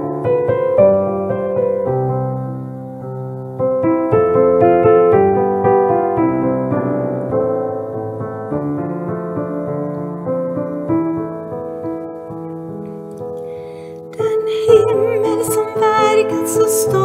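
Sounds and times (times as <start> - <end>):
piano playing hymn chords: 0.0 - 17.0.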